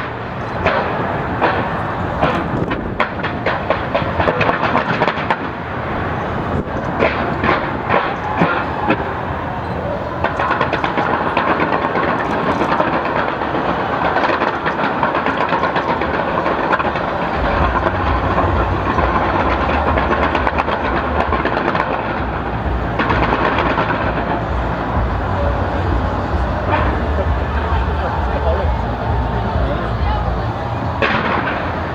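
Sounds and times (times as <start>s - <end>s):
fireworks crackling and popping: 0.0s - 31.9s
low rumble of firework bursts: 0.0s - 31.9s.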